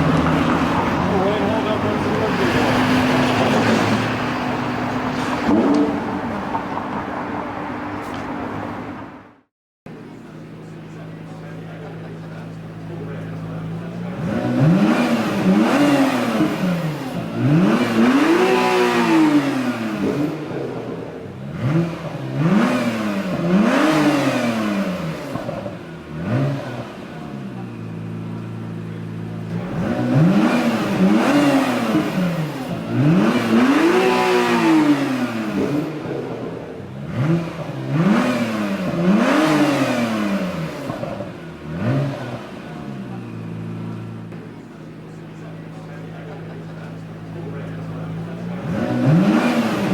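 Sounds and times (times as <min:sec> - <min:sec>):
car engine revving: 0:00.0 - 0:09.0, 0:09.9 - 0:49.9.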